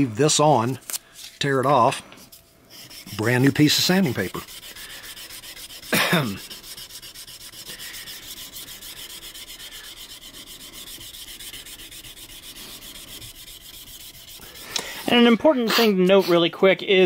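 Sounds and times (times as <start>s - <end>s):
sandpaper rasping on steel blade: 2.7s - 16.4s.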